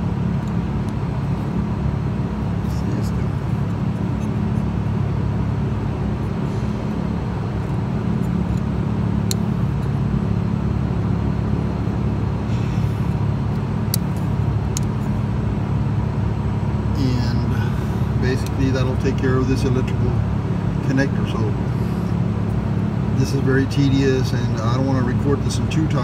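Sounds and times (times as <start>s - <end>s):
low mechanical drone: 0.0s - 26.0s.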